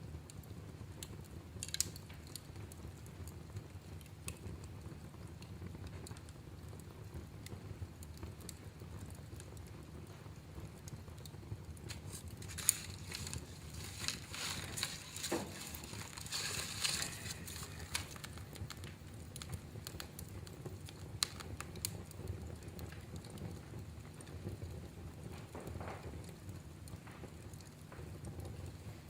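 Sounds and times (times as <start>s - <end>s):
low steady fire rumble: 0.0s - 29.0s
wood fire crackling: 0.0s - 29.0s
sharp pops of fire: 0.2s - 29.0s.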